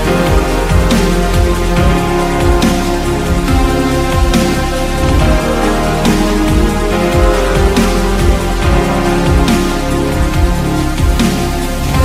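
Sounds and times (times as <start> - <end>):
held chords: 0.0 - 12.0
low drum thumps: 0.0 - 12.0.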